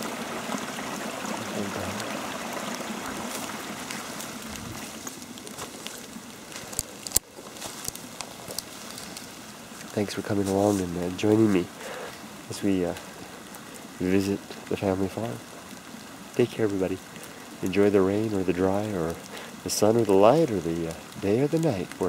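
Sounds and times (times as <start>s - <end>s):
underground water rushing: 0.0s - 22.0s.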